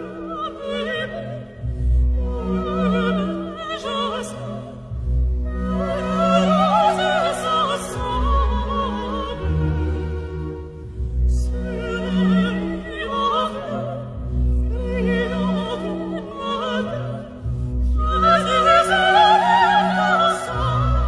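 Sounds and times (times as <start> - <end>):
operatic singer with vibrato: 0.0 - 21.0
orchestral accompaniment: 0.0 - 21.0.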